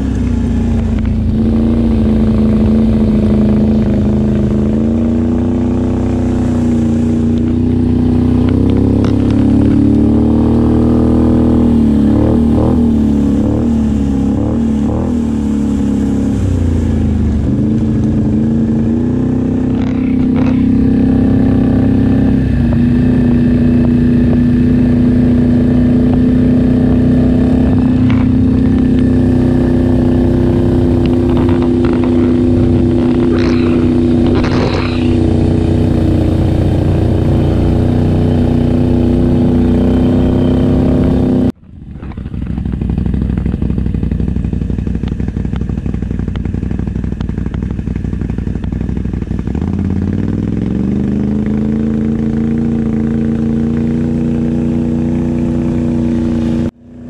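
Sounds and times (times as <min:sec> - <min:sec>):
quad engine running: 0:00.0 - 0:57.0
quads running through water: 0:00.0 - 0:57.0.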